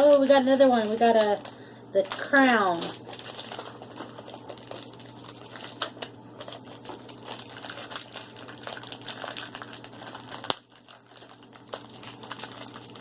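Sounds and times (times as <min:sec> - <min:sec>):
crinkly plastic packaging handled: 0:00.0 - 0:13.0.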